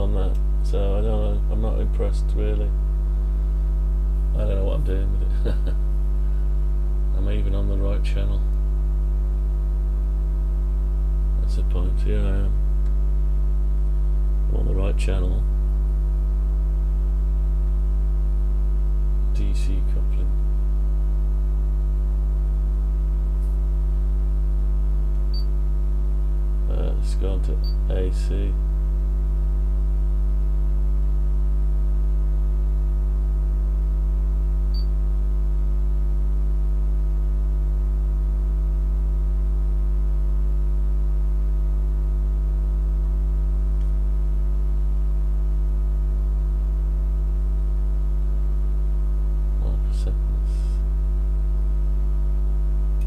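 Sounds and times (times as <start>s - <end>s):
mains hum: 0.0s - 53.0s.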